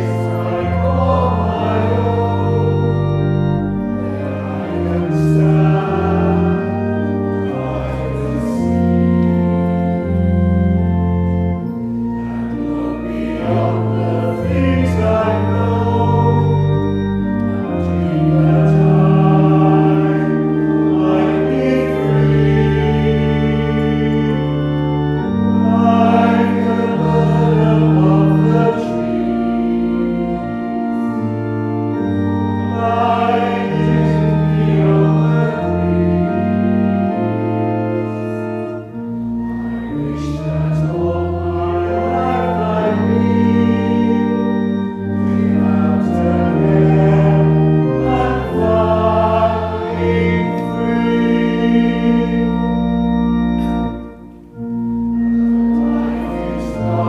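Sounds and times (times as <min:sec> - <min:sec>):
congregation singing a hymn: 0:00.0 - 0:57.0
pipe organ chords: 0:00.0 - 0:57.0.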